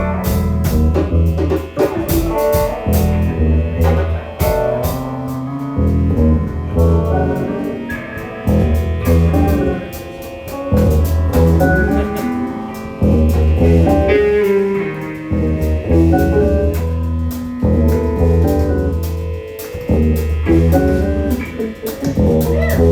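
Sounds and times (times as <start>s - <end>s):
bass line: 0.0s - 22.9s
drum kit: 0.0s - 22.9s
guitar: 0.0s - 22.9s
keyboard: 0.0s - 22.9s.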